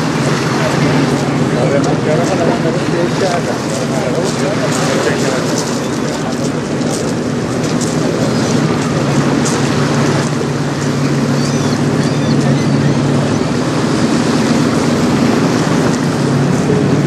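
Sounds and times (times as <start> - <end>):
boat engine drone: 0.0 - 17.0
choppy water: 0.0 - 17.0.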